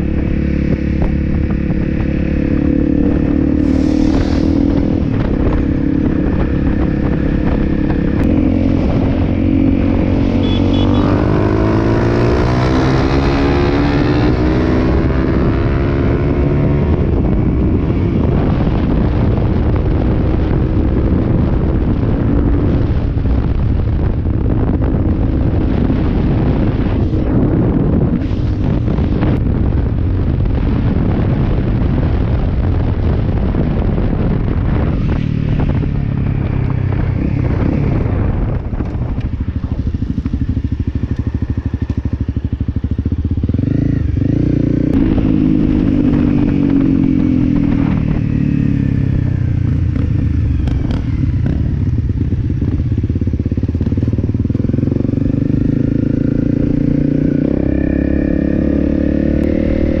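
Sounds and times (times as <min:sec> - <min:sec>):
motorcycle engine running: 0:00.0 - 1:00.0
wind noise on microphone: 0:00.0 - 1:00.0.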